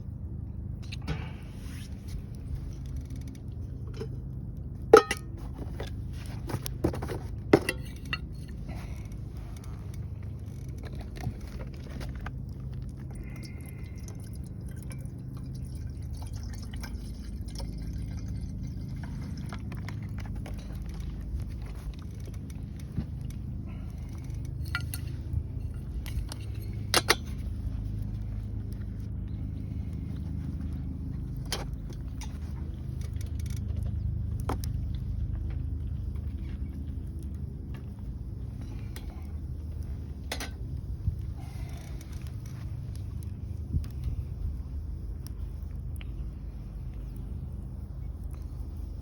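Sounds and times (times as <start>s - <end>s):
steady low rumble: 0.0s - 49.0s.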